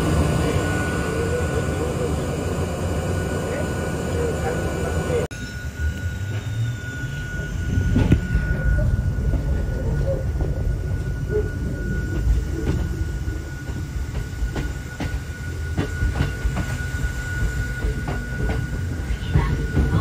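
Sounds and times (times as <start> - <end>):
railcar running gear rumble: 0.0 - 20.0
steady high-pitched tone: 0.0 - 20.0.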